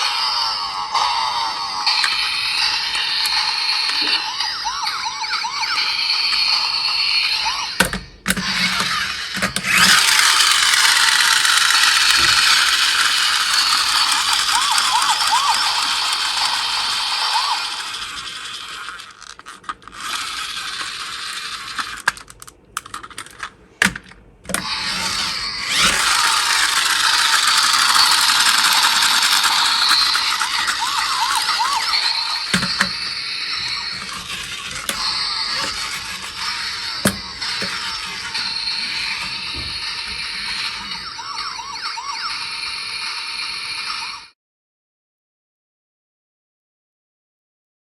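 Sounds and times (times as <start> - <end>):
toy electronic siren wailing: 0.0 - 19.3, 19.9 - 22.1, 24.5 - 44.3.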